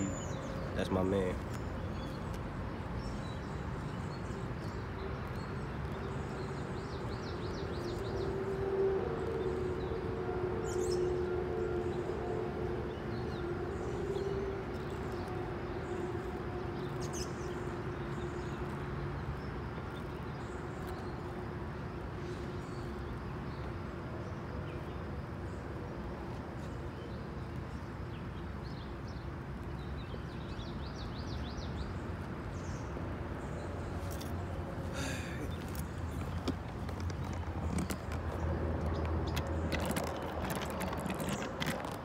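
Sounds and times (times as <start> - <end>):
outdoor background noise: 0.0 - 42.0.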